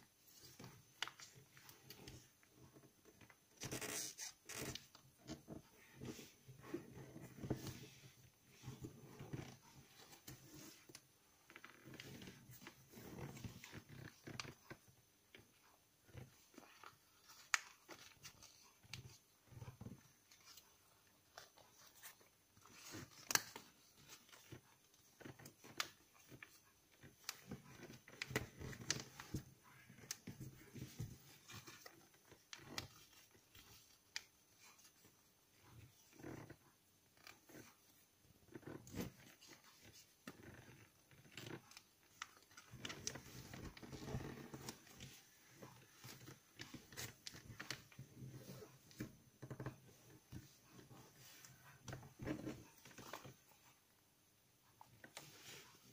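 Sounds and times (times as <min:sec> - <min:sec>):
paper crinkling and creasing: 0:00.3 - 0:36.6, 0:38.6 - 0:53.7.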